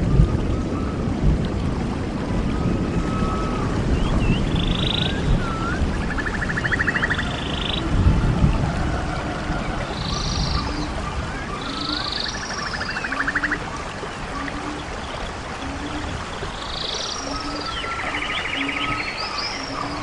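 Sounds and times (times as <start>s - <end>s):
songbird singing: 2.5s - 20.0s.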